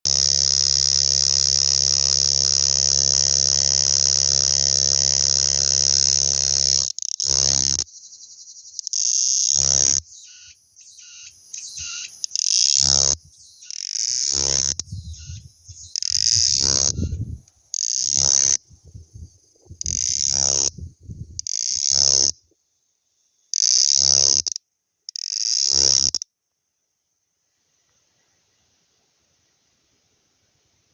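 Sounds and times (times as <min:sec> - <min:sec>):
cicada buzzing: 0:00.1 - 0:26.2.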